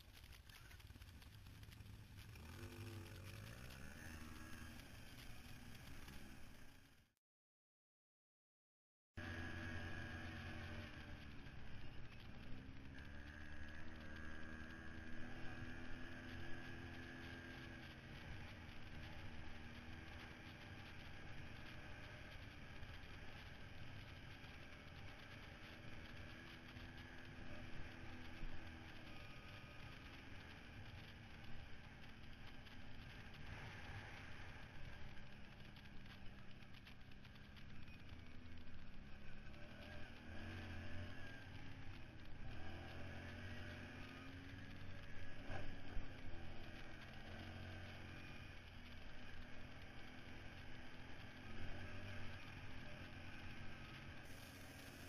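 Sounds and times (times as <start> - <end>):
atv engine drone: 0.0 - 7.1, 9.2 - 55.0.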